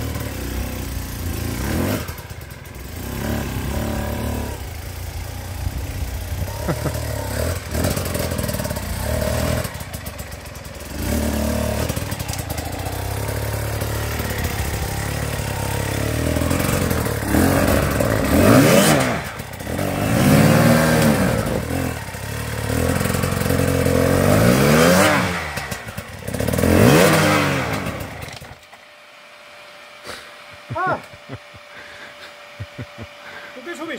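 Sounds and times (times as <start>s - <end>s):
dirt bike engine revving: 0.0s - 28.6s, 30.1s - 33.9s.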